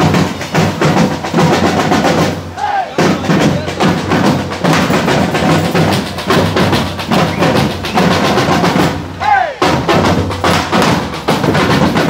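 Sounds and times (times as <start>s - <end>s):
drum band playing fast rhythm: 0.0s - 12.0s.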